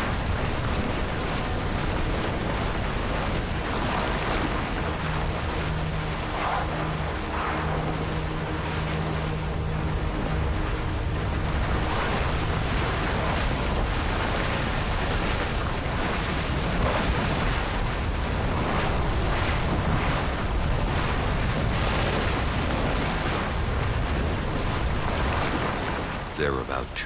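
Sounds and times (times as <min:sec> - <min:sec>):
lava lake rushing: 0:00.0 - 0:27.0.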